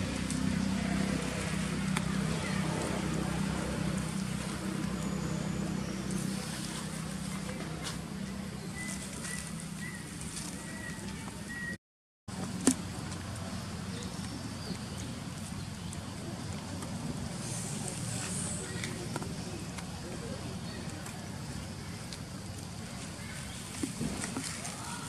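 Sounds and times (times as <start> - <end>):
low outdoor hum: 0.0 - 25.0.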